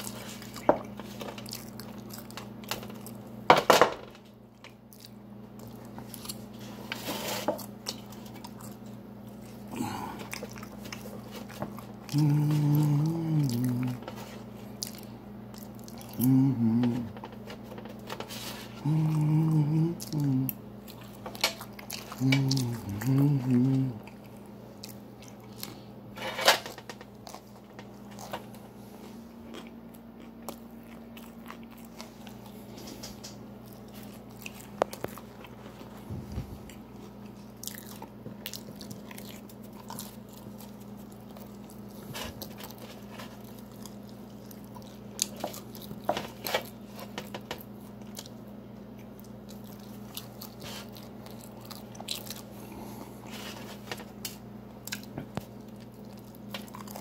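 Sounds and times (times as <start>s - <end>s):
person chewing pizza: 0.0s - 3.6s, 4.2s - 57.0s
steady low hum: 0.0s - 57.0s.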